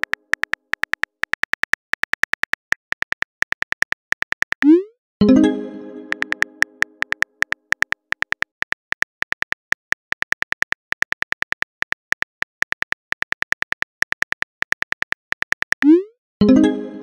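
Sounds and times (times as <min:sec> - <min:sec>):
phone keyboard typing clicks: 0:00.0 - 0:04.7, 0:06.1 - 0:15.9.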